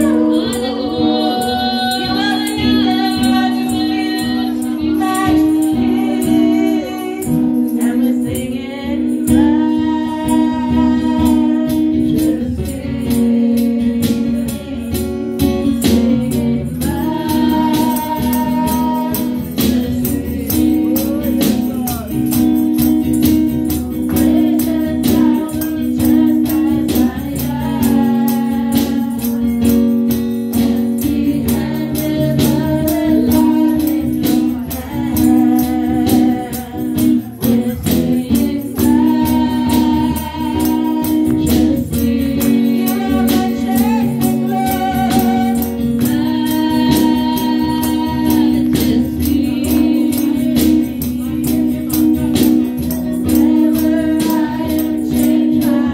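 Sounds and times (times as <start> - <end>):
held chords: 0.0 - 55.9
shaken percussion beat: 0.0 - 55.9
woman singing into microphone: 0.0 - 55.9.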